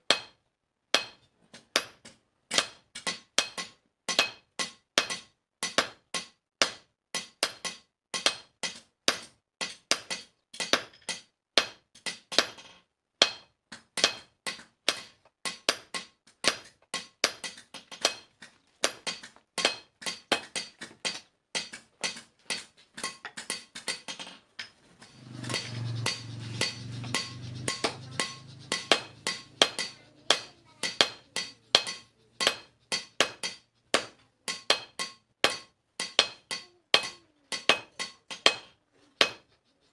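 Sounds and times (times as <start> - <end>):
hammer striking iron on anvil: 0.0 - 39.5.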